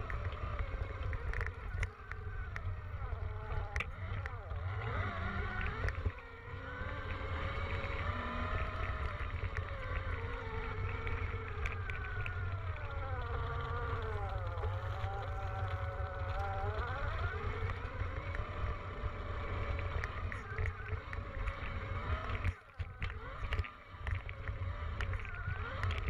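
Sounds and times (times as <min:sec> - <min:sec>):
electric motor whining: 0:00.0 - 0:26.0
steady low rumble: 0:00.0 - 0:26.0.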